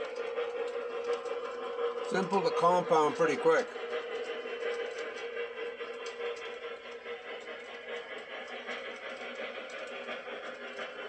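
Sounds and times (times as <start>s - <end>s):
electronic steam chuffing: 0.0s - 11.0s
model train wheels rumbling on track: 0.0s - 11.0s.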